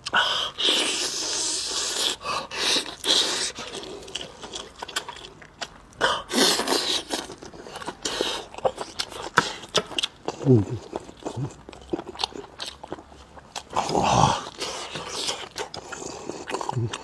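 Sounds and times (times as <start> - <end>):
wet chewing: 0.0 - 17.0.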